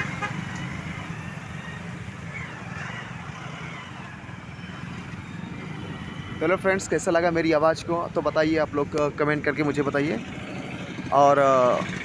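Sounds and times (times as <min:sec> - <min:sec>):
bus engine humming: 0:00.0 - 0:12.0
vehicle engines idling: 0:00.0 - 0:12.0.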